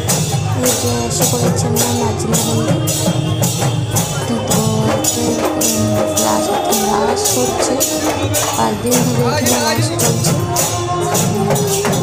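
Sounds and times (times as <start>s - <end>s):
music with hissy percussion: 0.0s - 12.0s.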